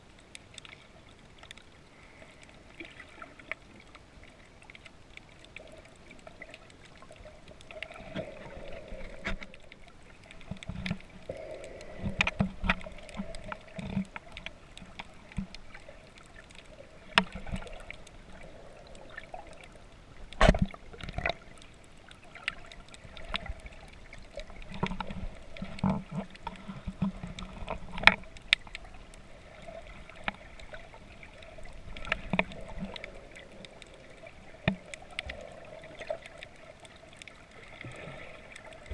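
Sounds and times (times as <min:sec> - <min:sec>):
underwater water sloshing: 0:00.0 - 0:38.9.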